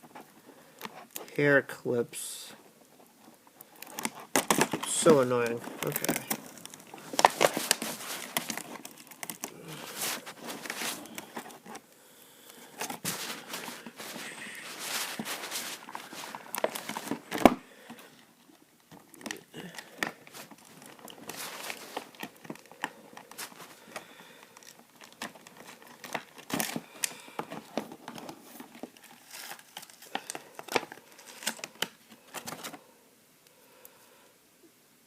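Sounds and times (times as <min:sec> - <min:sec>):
plastic packaging crinkling: 0:03.2 - 0:32.8.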